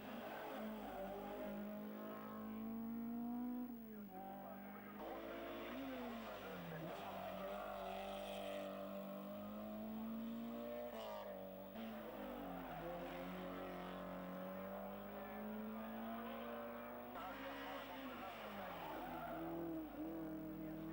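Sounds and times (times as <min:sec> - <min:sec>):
racing car engines revving: 0:00.0 - 0:20.9.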